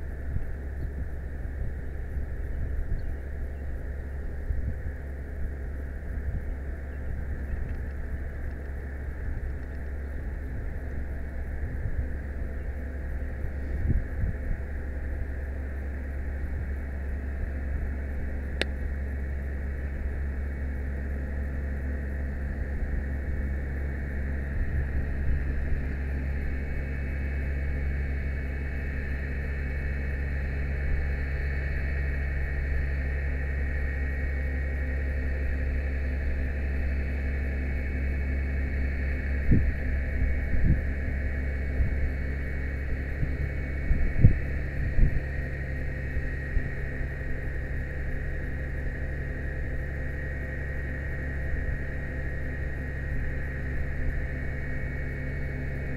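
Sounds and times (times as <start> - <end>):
hydraulic whine: 0.0 - 55.9
truck engine low drone: 0.0 - 55.9.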